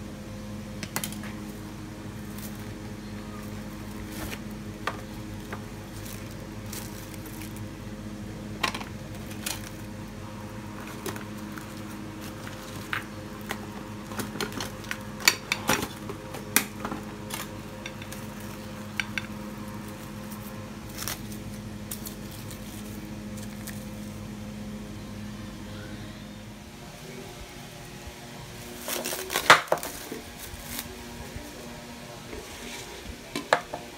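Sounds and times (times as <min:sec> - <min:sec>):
steady low hum: 0:00.0 - 0:33.9
cling wrap crackling: 0:00.8 - 0:24.6, 0:26.8 - 0:33.3.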